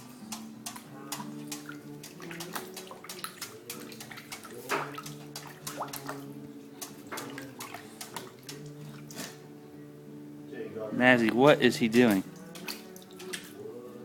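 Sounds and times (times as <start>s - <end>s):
puppy splashing water in bowl: 0.0s - 9.5s, 11.8s - 13.7s.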